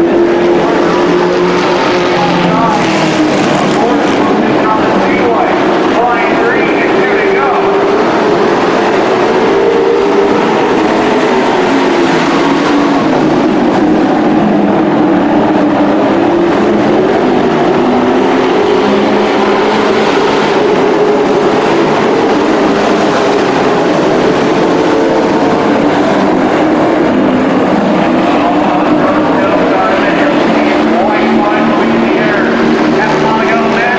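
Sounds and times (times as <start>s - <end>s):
race truck engines droning: 0.0s - 33.9s.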